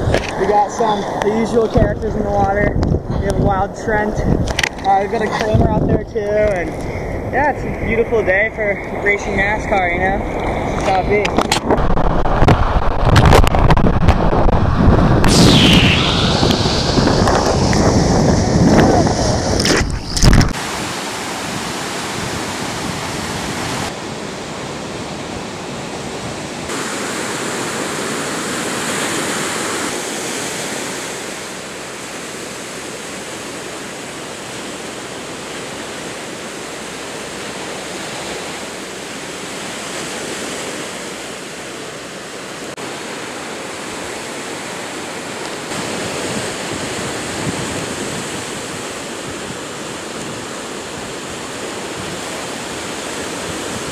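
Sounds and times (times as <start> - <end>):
ocean waves breaking: 0.0 - 53.9.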